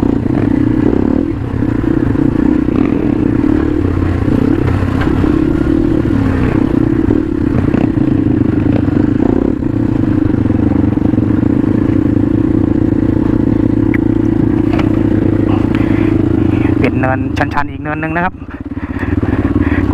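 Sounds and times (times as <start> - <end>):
motorcycle engine running: 0.0 - 19.9
motorcycle rattling: 0.0 - 19.9.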